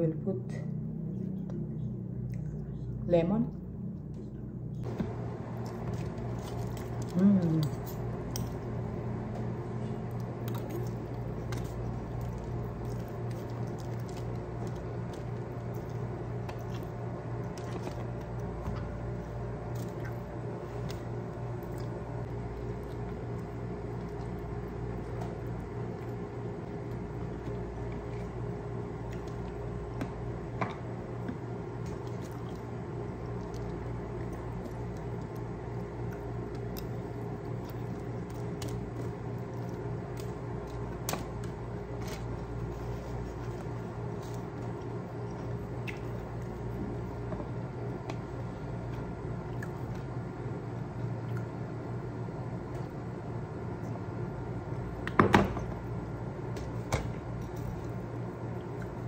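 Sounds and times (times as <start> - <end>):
steady low hum: 0.0 - 59.0
wet chewing and squishing food: 1.1 - 51.7, 56.1 - 59.0.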